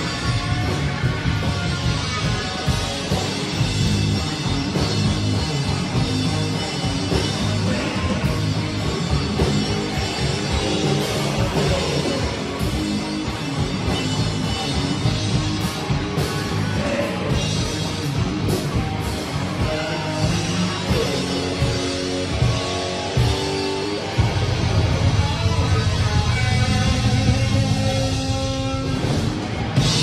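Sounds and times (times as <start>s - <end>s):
drum kit: 0.0s - 30.0s
electric bass: 0.0s - 30.0s
electric guitar: 0.0s - 30.0s.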